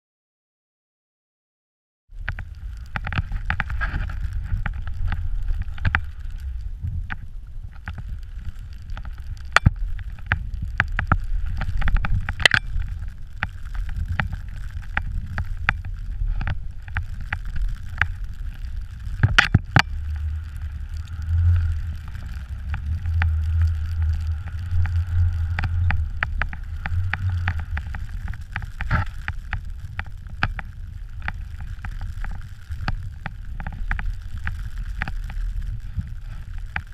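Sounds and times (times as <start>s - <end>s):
wind buffeting microphone: 2.1s - 36.9s.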